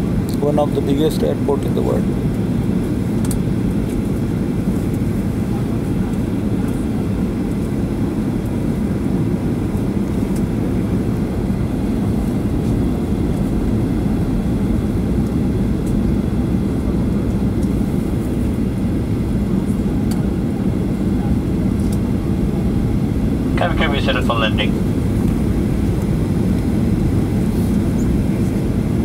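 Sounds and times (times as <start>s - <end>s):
airliner cabin rumble: 0.0s - 29.0s.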